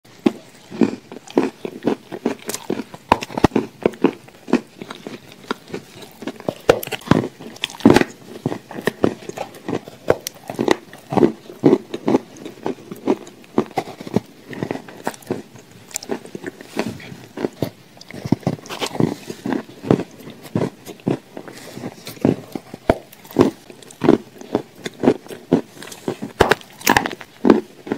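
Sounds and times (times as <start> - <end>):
person crunching a cookie: 0.1 - 27.9.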